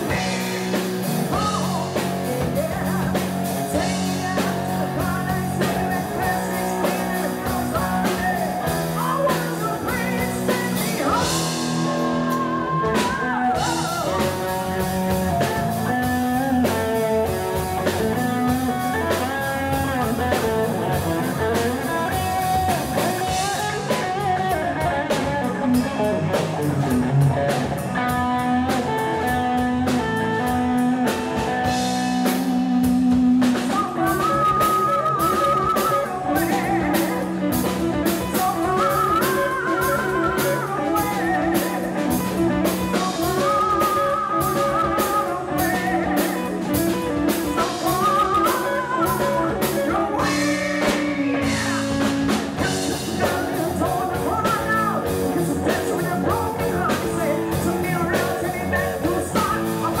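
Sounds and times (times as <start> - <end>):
rock band playing: 0.0 - 60.0
woman singing: 0.0 - 60.0.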